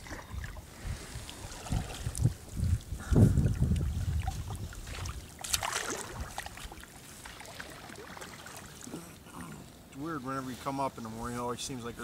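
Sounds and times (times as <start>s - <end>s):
paddle splashing water: 0.0s - 9.9s.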